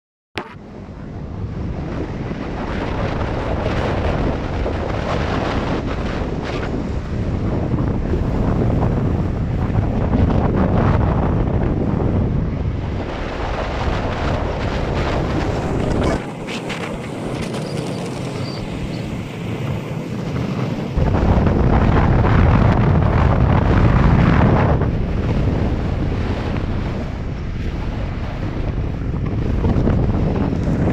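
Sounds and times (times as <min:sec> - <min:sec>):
wind buffeting microphone: 0:00.5 - 0:30.9
surf breaking: 0:01.5 - 0:30.9.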